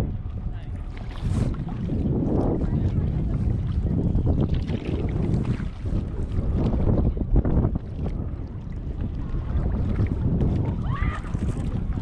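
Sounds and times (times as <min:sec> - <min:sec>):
wind buffeting microphone: 0:00.0 - 0:12.0
paddle splashes and drips: 0:00.8 - 0:06.9, 0:07.6 - 0:12.0.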